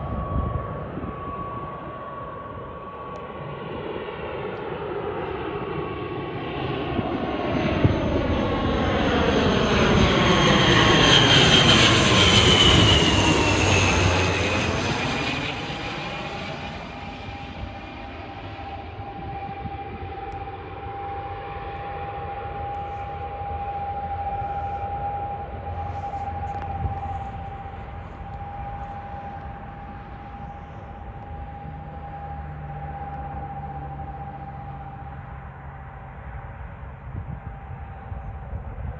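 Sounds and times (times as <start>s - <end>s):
low hum: 0.0s - 38.9s
turboprop engine whine: 0.0s - 38.9s.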